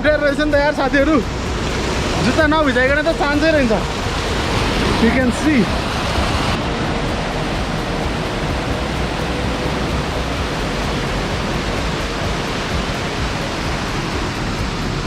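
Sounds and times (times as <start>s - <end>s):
stream rushing over rocks: 0.6s - 15.0s.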